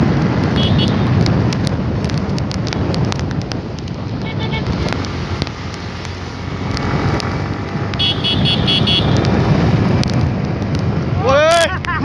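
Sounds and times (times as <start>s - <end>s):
motorcycle engine and wind noise: 0.0s - 12.0s.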